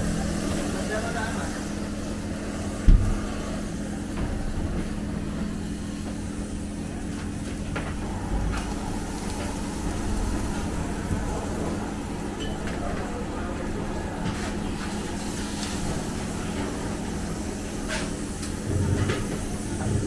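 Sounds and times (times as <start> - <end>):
grill hum and hiss: 0.0 - 20.0.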